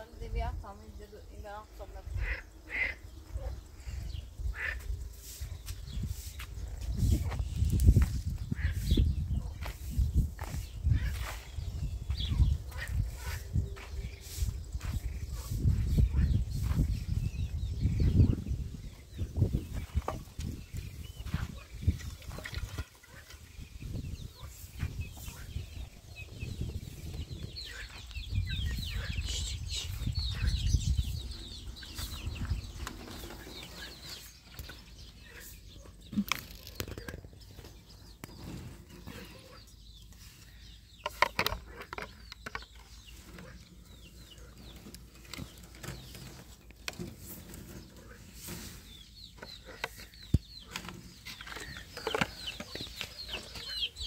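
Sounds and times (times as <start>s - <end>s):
chickens clucking: 1.8s - 54.0s.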